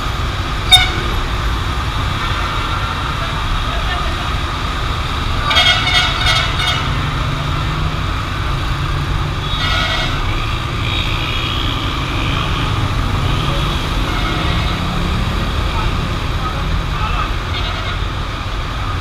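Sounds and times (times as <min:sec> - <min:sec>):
city road traffic rumble: 0:00.0 - 0:19.0.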